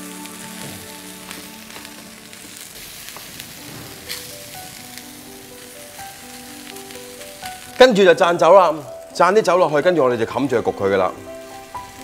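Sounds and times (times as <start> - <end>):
prawns sizzling on hot pebbles: 0.0 - 12.0
soft background music: 0.0 - 12.0.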